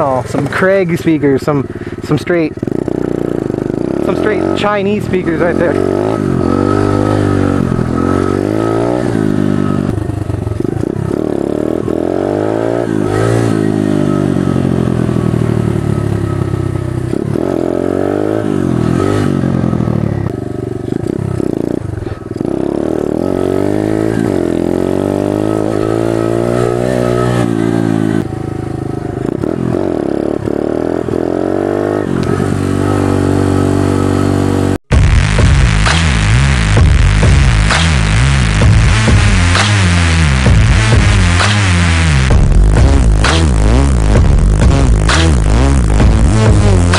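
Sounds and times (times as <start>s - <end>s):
pit bike engine revving: 0.0s - 46.9s.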